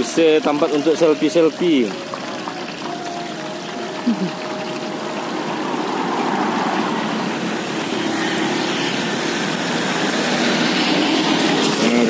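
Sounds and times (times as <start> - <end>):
passing vehicle engine: 2.2 - 12.0.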